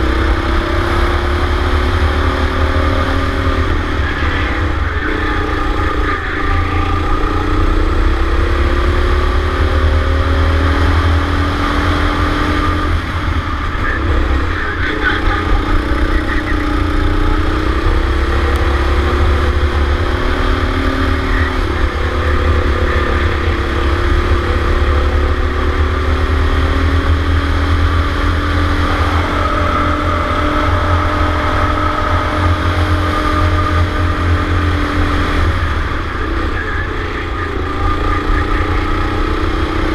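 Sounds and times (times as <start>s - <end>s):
go-kart engine revving: 0.0s - 39.9s
heavy low rumble: 0.0s - 39.9s.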